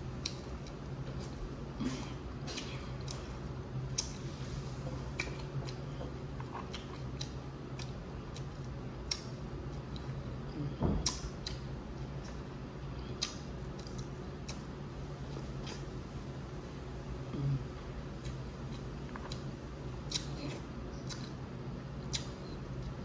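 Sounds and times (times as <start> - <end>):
air conditioner hum: 0.0 - 23.0.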